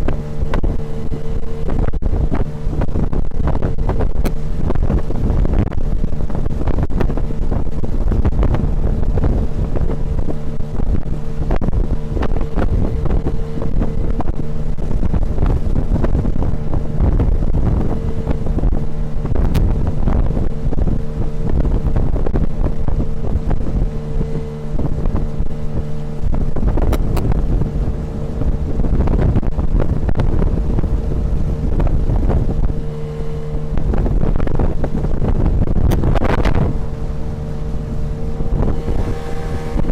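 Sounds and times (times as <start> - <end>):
outboard motor hum: 0.0 - 39.9
wind buffeting microphone: 0.0 - 39.9.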